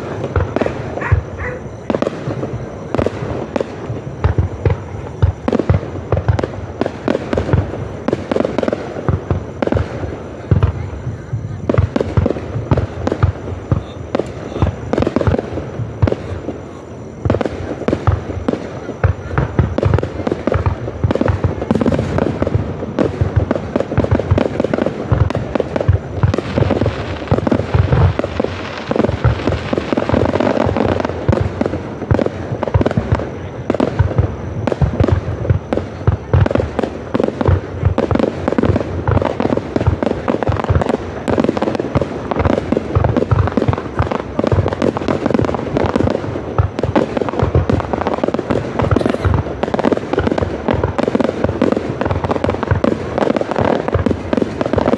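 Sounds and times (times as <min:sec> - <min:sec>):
fireworks booming and crackling: 0:00.0 - 0:54.9.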